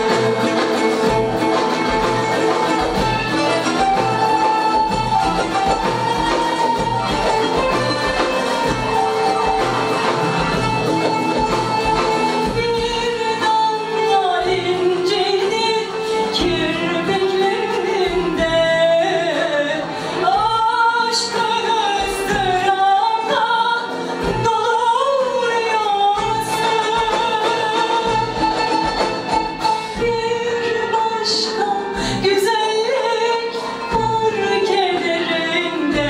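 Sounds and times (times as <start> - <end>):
oud: 0.0 - 36.0
percussion: 0.0 - 36.0
violins: 0.0 - 36.0.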